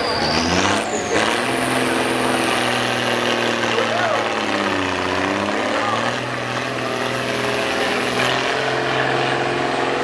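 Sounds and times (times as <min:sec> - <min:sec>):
truck diesel engine under load: 0:00.0 - 0:10.0.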